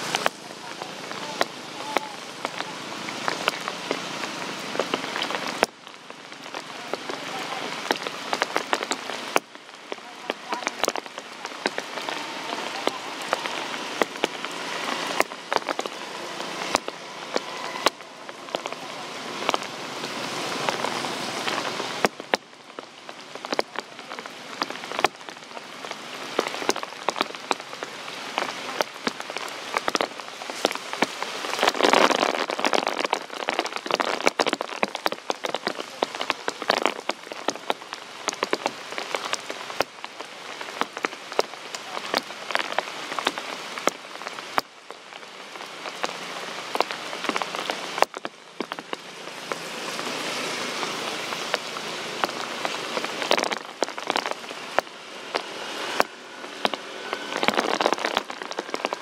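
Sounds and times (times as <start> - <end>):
rain on ground and leaves: 0.0 - 59.0
sharp raindrop impacts: 0.0 - 59.0.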